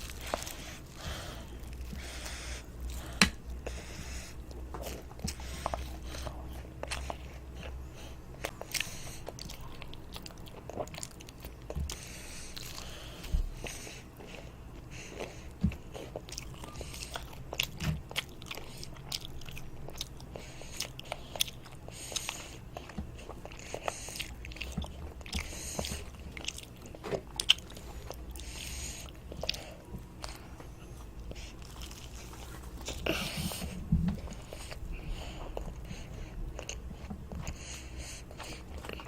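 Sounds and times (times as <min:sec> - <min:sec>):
child chewing toast: 0:00.0 - 0:39.0.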